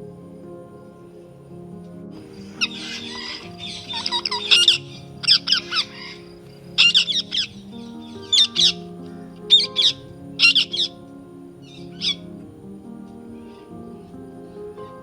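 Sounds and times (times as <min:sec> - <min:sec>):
soft music of sustained chords: 0:00.0 - 0:15.0.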